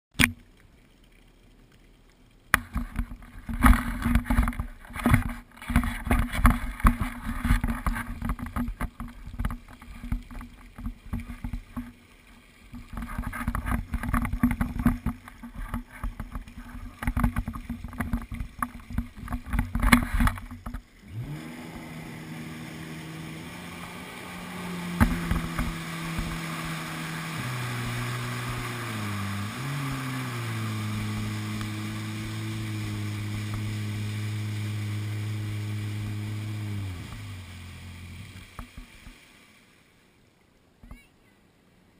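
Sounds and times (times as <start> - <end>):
jet ski engine: 2.5 - 12.0, 12.6 - 39.9.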